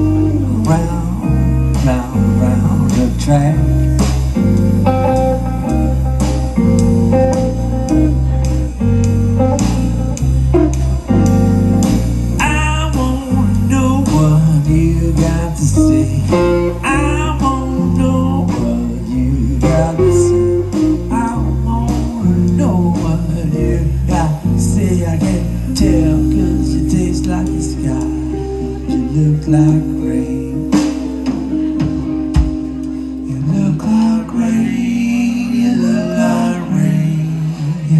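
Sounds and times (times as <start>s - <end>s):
drums: 0.0s - 37.9s
electric guitar lead: 0.0s - 37.9s
walking electric bass: 0.0s - 37.9s.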